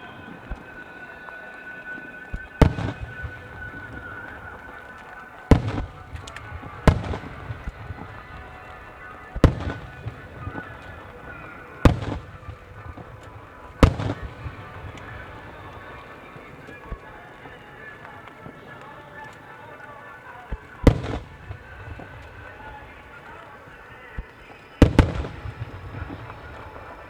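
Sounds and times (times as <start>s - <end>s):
firework crackling: 0.0s - 27.0s
firework shells booming: 0.0s - 27.0s
music: 0.0s - 27.0s.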